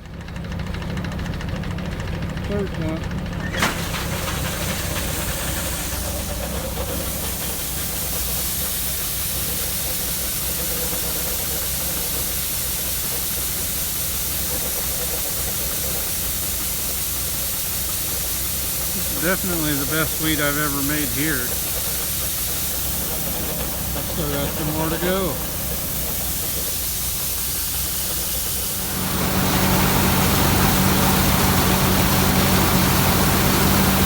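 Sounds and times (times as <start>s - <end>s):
combine harvester engine drone: 0.0s - 34.0s
threshing machinery hiss and whir: 3.4s - 34.0s.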